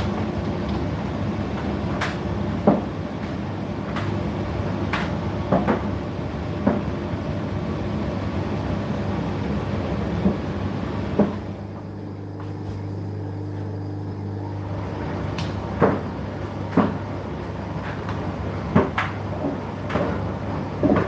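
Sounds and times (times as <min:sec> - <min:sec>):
tumble dryer motor hum: 0:00.0 - 0:21.0.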